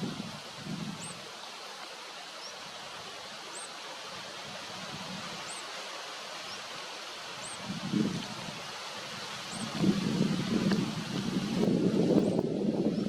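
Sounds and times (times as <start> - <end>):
outdoor ambient hiss: 0.0 - 13.0.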